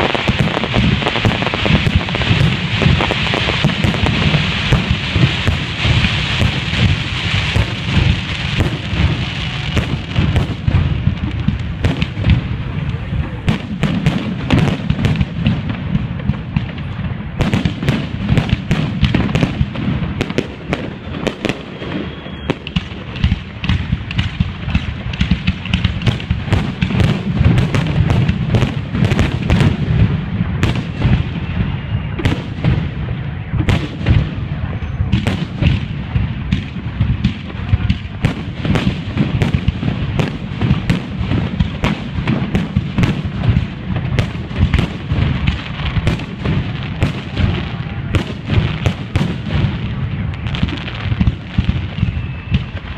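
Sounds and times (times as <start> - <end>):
faint fireworks whistles: 0.0 - 52.9
fireworks bursts and crackling bangs: 0.0 - 52.9.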